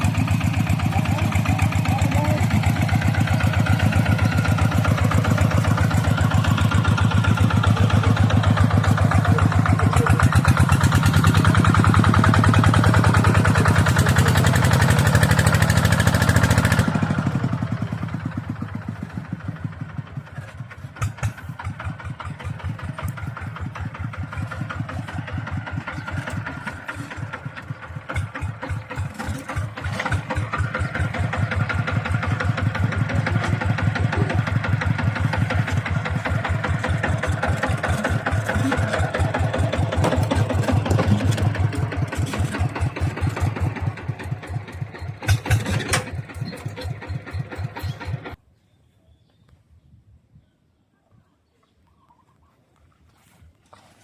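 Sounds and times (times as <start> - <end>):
tractor engine chugging: 0.0 - 48.4.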